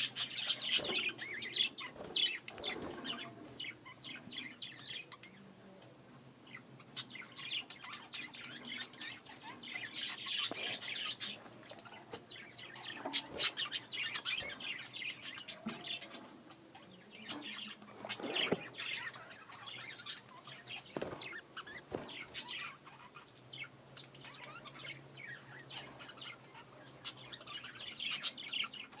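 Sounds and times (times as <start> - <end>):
budgerigars chirping and warbling: 0.0 - 29.0.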